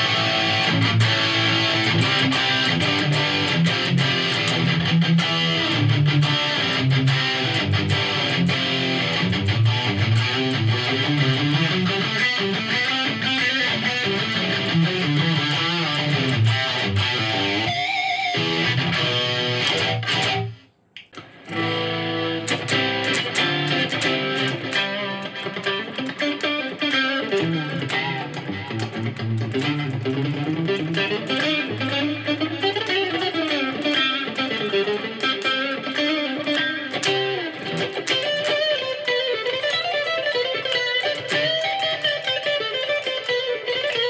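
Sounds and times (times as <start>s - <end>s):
electric guitar playing: 0.0s - 44.0s.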